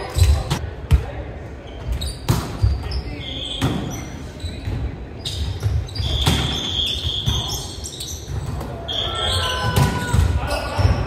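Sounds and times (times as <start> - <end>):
sneaker squeaks on court: 1.6 - 11.0.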